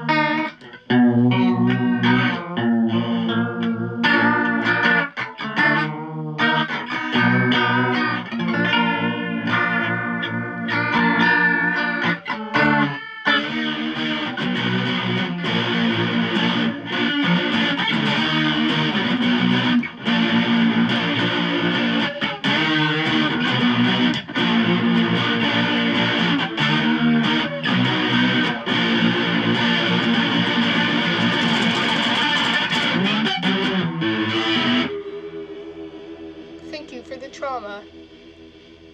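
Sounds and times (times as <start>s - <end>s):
distorted electric guitar chords: 0.0s - 38.9s.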